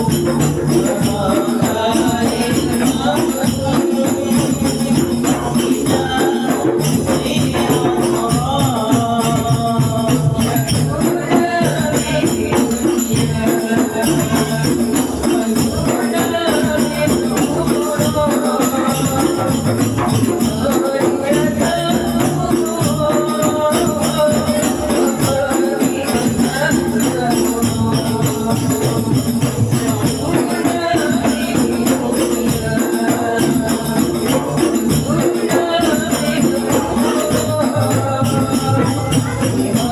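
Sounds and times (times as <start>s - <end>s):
group of voices singing: 0.0s - 39.9s
jingling hand percussion: 0.0s - 39.9s.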